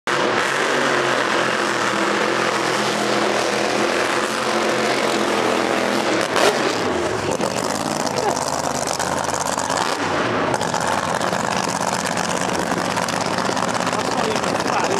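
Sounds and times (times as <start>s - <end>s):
loud car engine running: 0.0s - 14.9s.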